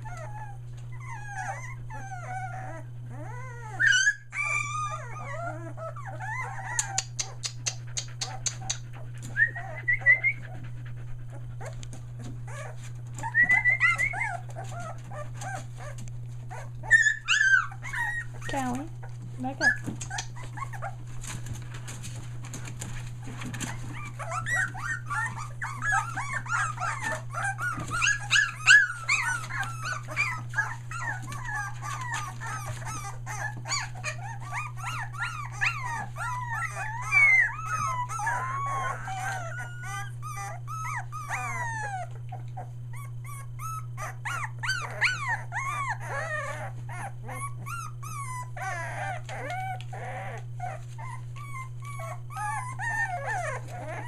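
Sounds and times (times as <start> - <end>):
puppies crying and whimpering: 0.0 - 54.0
steady low hum: 0.0 - 54.0.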